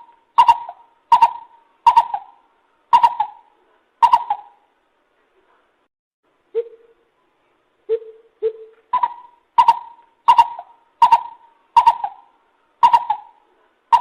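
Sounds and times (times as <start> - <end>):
bird calling hollow notes: 0.0 - 4.7, 6.5 - 7.0, 7.9 - 14.0.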